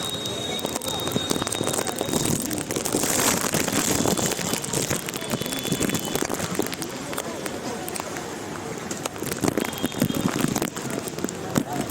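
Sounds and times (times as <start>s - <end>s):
heavy rain on street: 0.0s - 11.9s.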